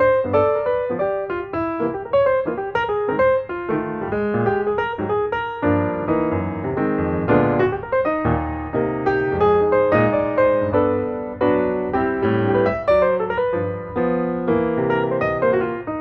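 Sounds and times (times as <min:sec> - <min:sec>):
piano with bass line: 0:00.0 - 0:16.0.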